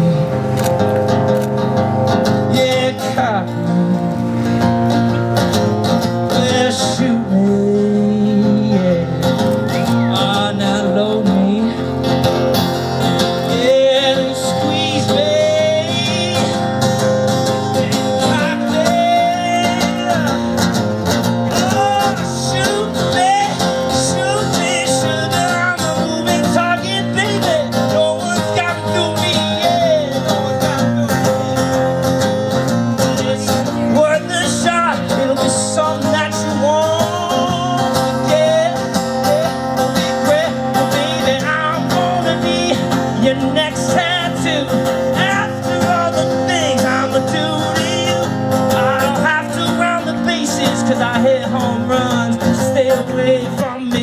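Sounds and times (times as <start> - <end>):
country-rock song with guitar: 0.0 - 54.0.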